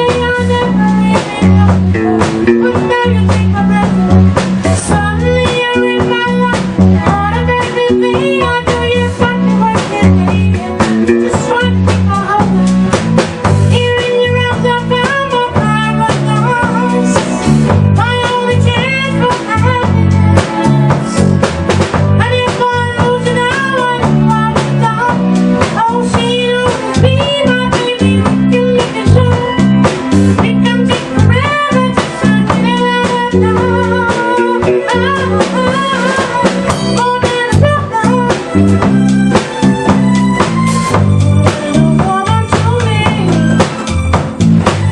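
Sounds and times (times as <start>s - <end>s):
bass line: 0.0s - 44.9s
drum kit: 0.0s - 44.9s
guitar: 0.0s - 44.9s.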